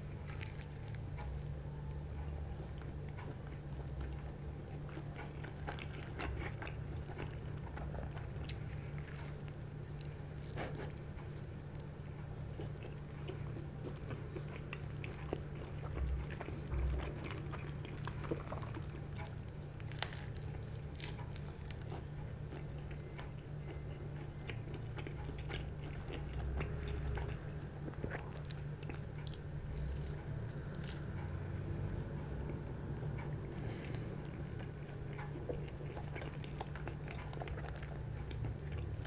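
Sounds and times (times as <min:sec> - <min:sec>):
low steady hum: 0:00.0 - 0:39.0
person chewing pizza: 0:00.0 - 0:39.0.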